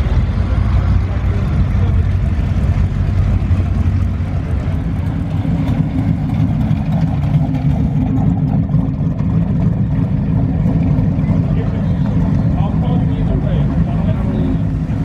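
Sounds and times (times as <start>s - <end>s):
car engine running low: 0.0s - 15.0s.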